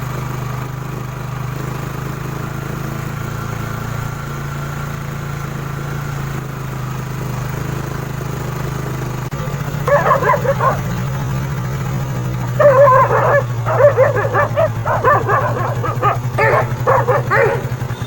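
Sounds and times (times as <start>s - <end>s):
engine running at low speed: 0.0s - 18.0s.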